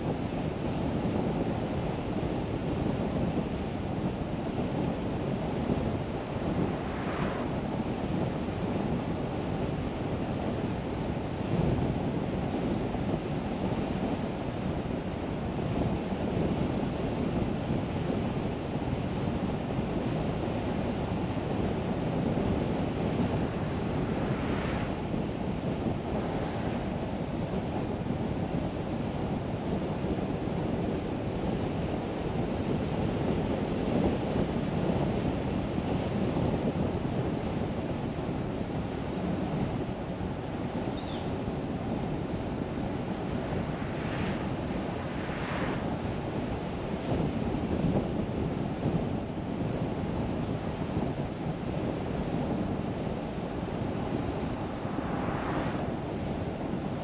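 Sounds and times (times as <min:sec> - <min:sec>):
car road and wind noise: 0:00.0 - 0:57.0.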